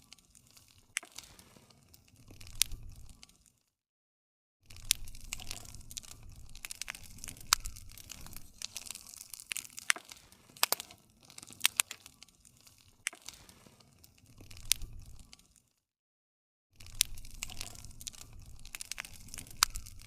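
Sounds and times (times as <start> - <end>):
low rumble of flames: 0.0 - 3.5, 4.6 - 15.6, 16.8 - 20.0
campfire crackling and popping: 0.0 - 3.6, 4.7 - 15.8, 16.8 - 20.0.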